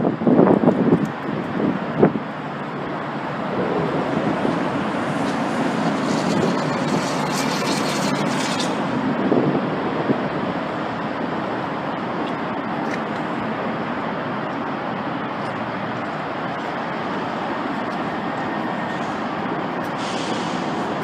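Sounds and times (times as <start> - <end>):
highway traffic noise: 0.0 - 21.0.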